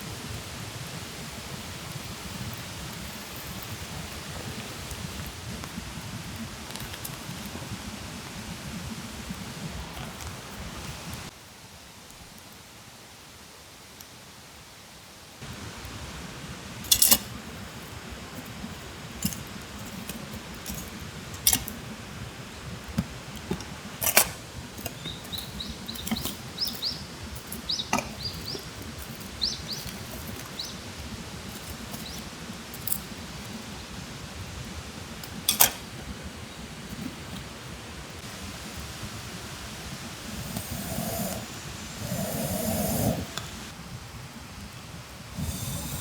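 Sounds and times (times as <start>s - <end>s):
campfire crackling: 0.0s - 12.7s, 15.0s - 46.0s.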